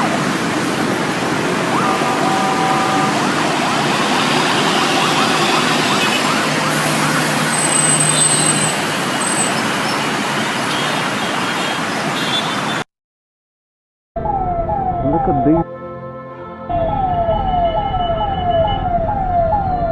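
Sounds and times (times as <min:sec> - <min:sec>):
ambulance siren: 0:00.0 - 0:10.8, 0:14.2 - 0:19.9
dense road traffic: 0:00.0 - 0:12.9, 0:14.2 - 0:19.9.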